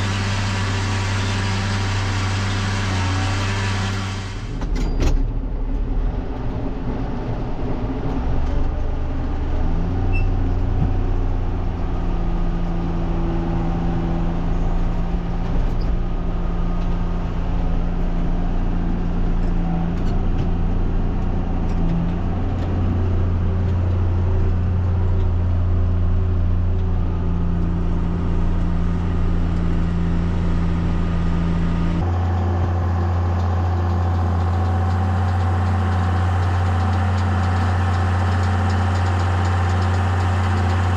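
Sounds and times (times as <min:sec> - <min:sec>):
tractor engine humming: 0:00.0 - 0:40.9.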